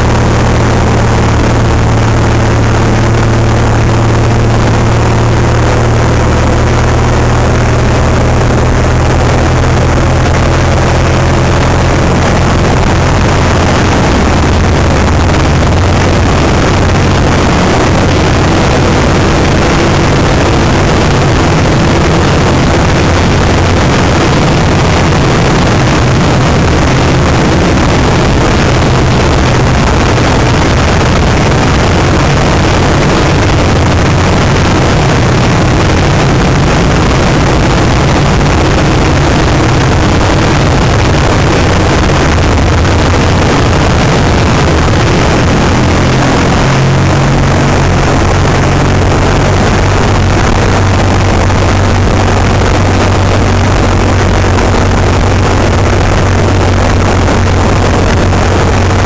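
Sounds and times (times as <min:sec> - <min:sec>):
loud rushing noise: 0:00.0 - 0:59.0
motorcycle engine droning: 0:00.0 - 0:59.0.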